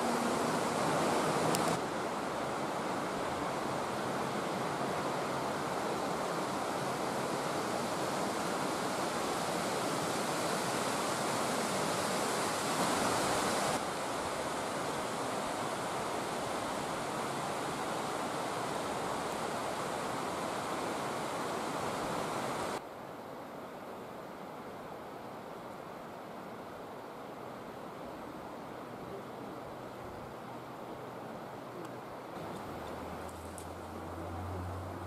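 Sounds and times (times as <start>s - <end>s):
flowing water rushing: 0.0s - 22.8s, 24.0s - 35.0s.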